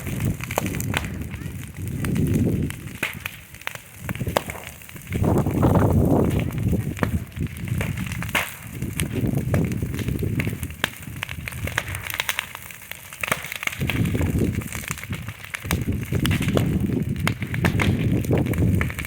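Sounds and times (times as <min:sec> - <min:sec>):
bonfire crackling and popping: 0:00.0 - 0:19.0
low fire rumble: 0:00.0 - 0:19.0.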